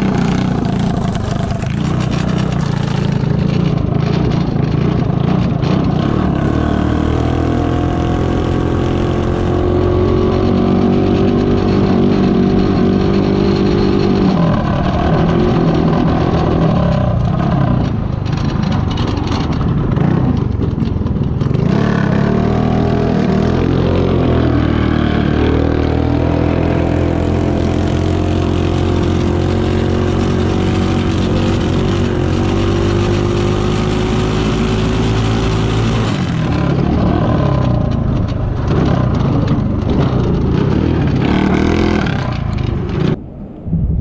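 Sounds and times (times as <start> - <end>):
go-kart engine revving: 0.0 - 43.2.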